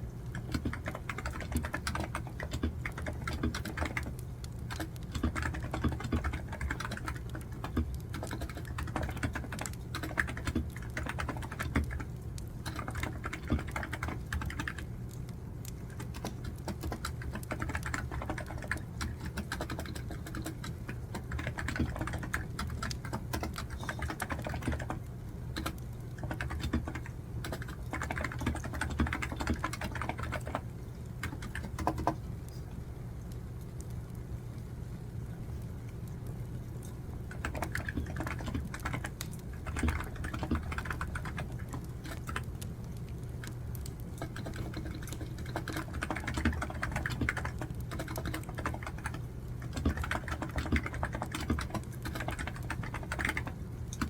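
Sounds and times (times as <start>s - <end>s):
keyboard typing: 0.3s - 14.9s, 15.6s - 32.3s, 37.2s - 54.0s.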